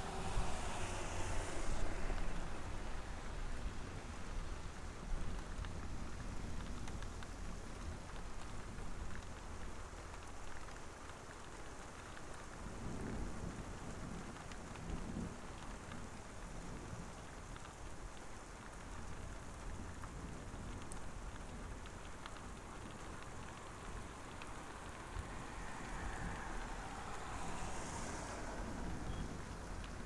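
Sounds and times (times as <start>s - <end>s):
steady rain falling: 0.0s - 30.0s
raindrops ticking: 0.1s - 30.0s.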